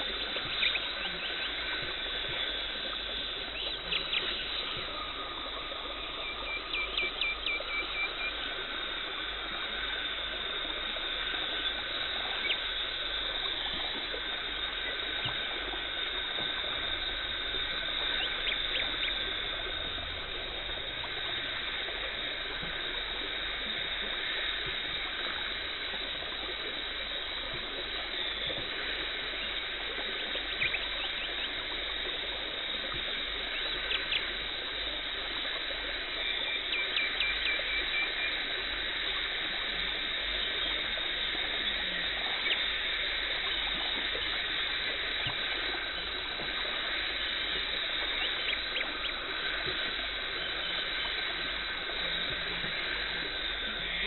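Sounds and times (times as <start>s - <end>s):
water spray and suction hiss: 0.0s - 54.0s.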